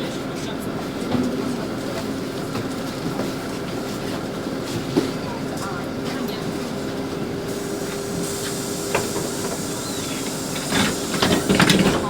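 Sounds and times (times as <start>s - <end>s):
bus drivetrain and road noise: 0.0s - 12.0s.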